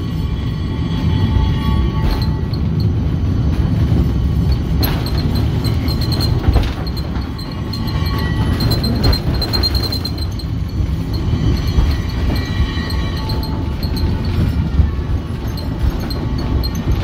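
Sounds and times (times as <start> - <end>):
funicular car rumbling on rails: 0.0 - 17.0.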